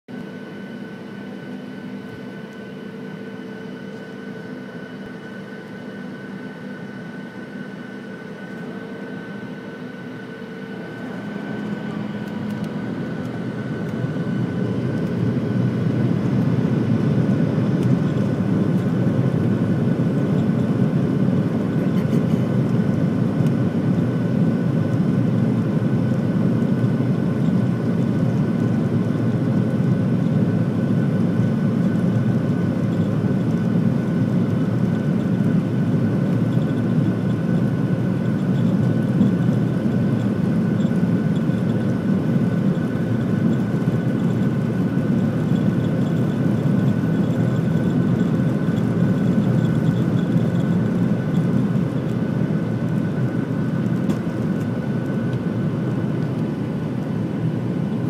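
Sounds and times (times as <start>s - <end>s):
jet engines humming and rumbling: 0.1s - 58.0s.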